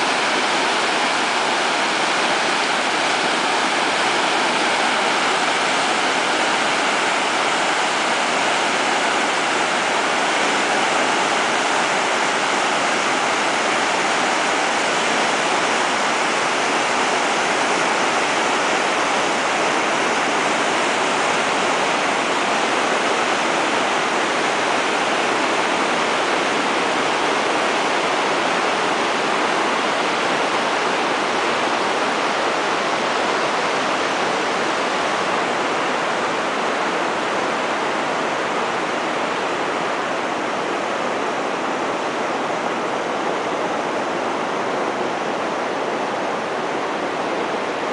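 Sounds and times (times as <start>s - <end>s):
river rapids rushing: 0.0s - 47.9s.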